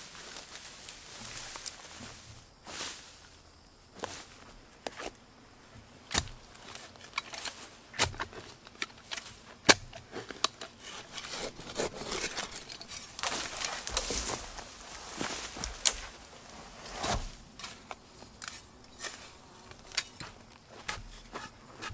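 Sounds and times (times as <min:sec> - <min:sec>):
rustling: 0:00.0 - 0:05.2, 0:06.2 - 0:21.9.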